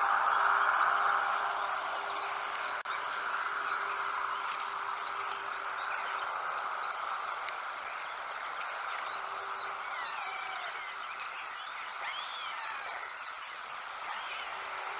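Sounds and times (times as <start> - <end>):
faint steady hum: 0.0 - 14.9
outdoor noise haze: 0.0 - 14.9
songbirds chirping: 0.0 - 14.9.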